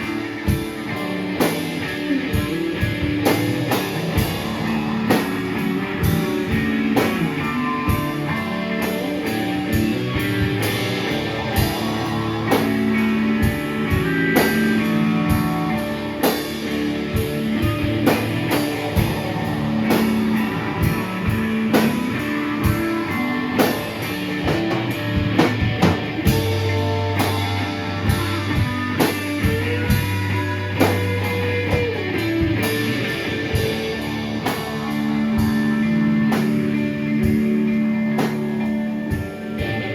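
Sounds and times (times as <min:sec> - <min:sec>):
live rock band: 0:00.0 - 0:39.9.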